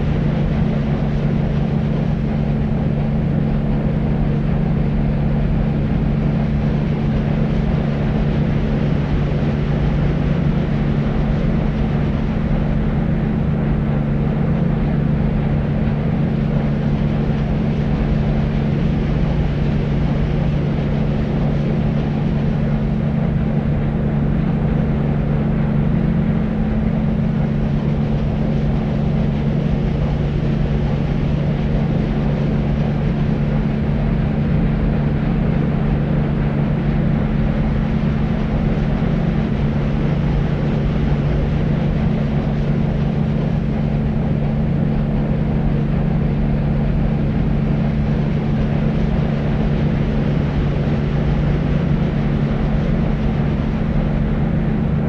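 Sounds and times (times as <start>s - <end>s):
constant low hum: 0.0s - 55.0s
deep rumbling white noise: 0.0s - 55.0s.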